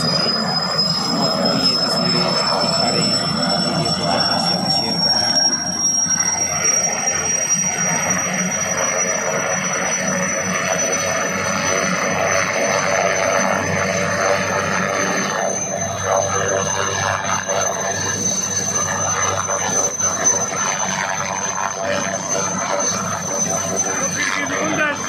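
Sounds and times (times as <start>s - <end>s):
helicopter rotor drone: 0.0s - 25.0s
helicopter turbine whine: 0.0s - 25.0s.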